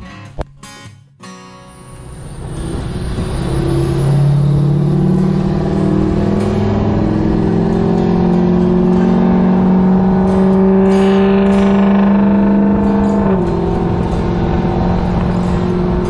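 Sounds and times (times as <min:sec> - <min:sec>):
road and wind noise: 0:01.6 - 0:16.0
truck engine accelerating: 0:01.7 - 0:16.0.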